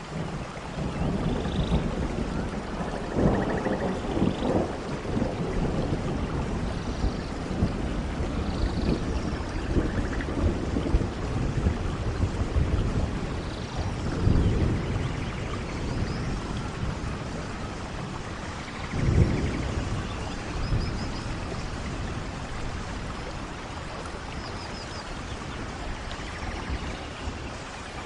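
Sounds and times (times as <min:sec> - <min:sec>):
low thunder rumbles: 0:00.0 - 0:28.0
steady rain falling: 0:00.0 - 0:28.0.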